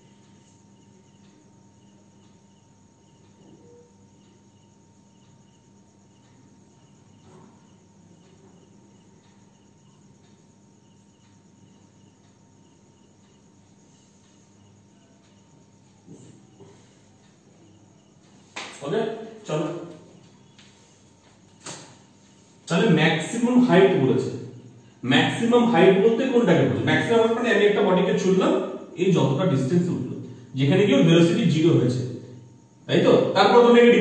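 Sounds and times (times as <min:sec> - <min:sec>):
insect chirping: 0:00.0 - 0:34.0
steady low hum: 0:00.0 - 0:34.0.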